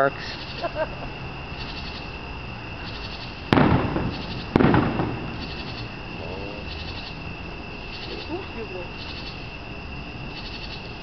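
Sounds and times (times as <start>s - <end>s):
fireworks bursting: 0.0s - 8.8s.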